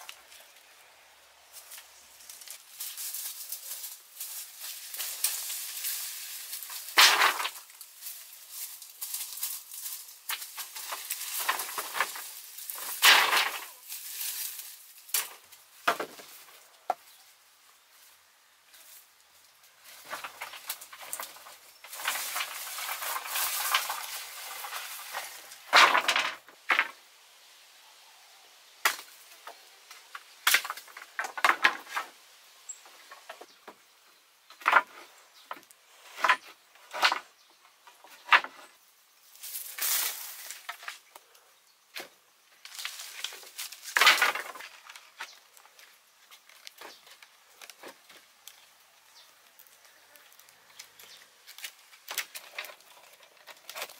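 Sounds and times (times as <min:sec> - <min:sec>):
wooden poles clattering: 0:01.5 - 0:17.2, 0:19.7 - 0:27.0, 0:28.8 - 0:32.2, 0:32.8 - 0:33.8, 0:34.5 - 0:38.8, 0:39.4 - 0:41.3, 0:41.9 - 0:53.9.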